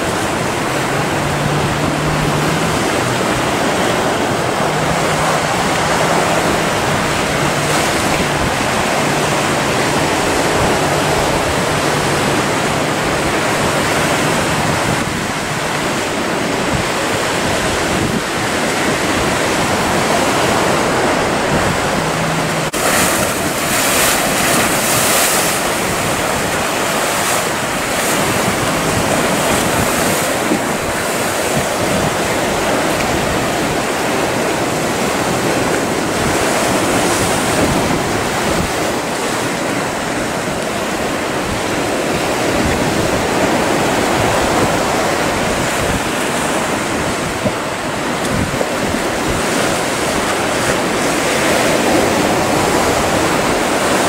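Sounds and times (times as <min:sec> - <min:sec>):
waves breaking: 0:00.0 - 0:54.0
wind buffeting microphone: 0:00.0 - 0:54.0.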